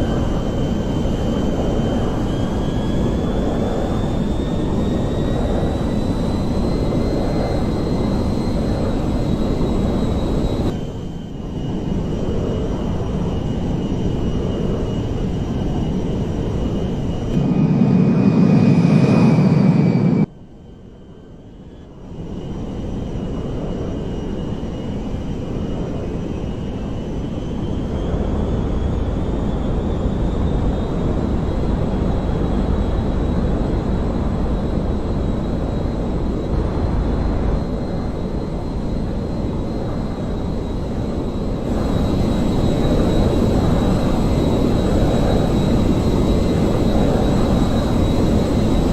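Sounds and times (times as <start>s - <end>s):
airliner engines droning with whine: 0.0s - 48.9s.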